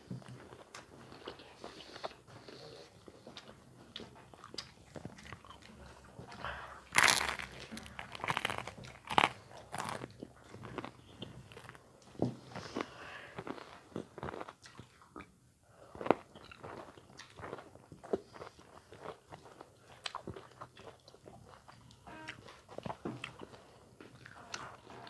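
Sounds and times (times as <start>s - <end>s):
crunchy food being chewed: 0.2s - 25.0s.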